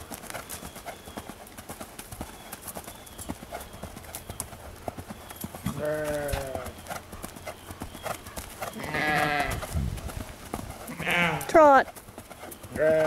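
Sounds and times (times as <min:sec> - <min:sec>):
horse hoofbeats on grass: 0:00.0 - 0:13.0.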